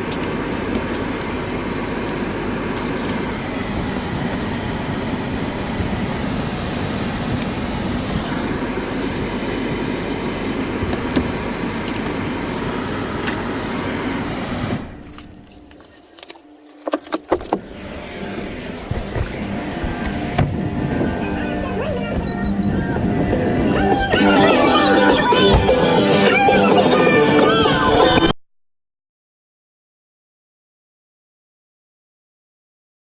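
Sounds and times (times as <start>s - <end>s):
vehicle rumble: 0.0s - 28.3s.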